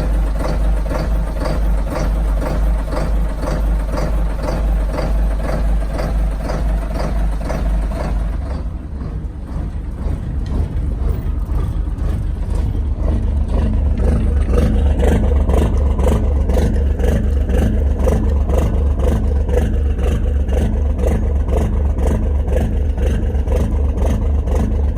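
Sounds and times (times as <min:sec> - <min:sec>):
boat diesel engine rumbling: 0:00.0 - 0:24.9.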